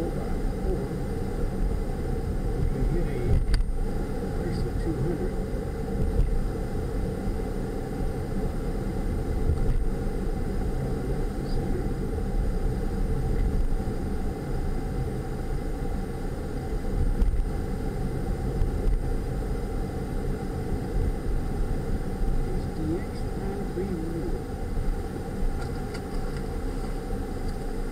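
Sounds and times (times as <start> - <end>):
car cabin road and engine rumble: 0.0 - 27.9.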